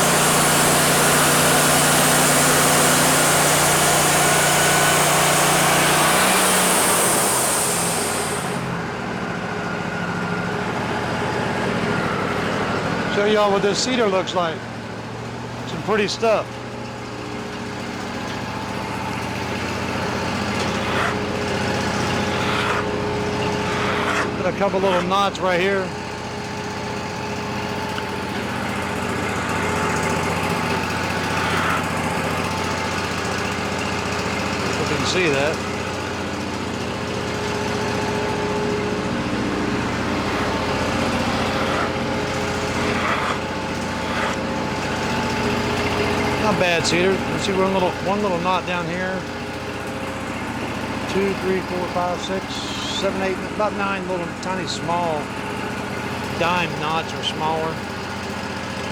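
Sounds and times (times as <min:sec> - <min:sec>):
sawmill engine running: 0:00.0 - 0:58.9.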